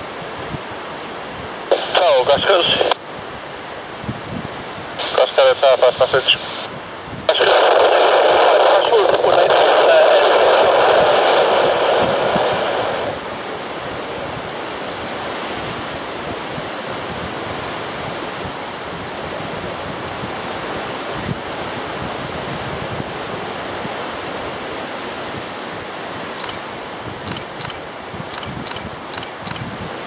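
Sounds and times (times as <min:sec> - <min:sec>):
wind buffeting microphone: 0:02.4 - 0:05.0, 0:06.6 - 0:30.0.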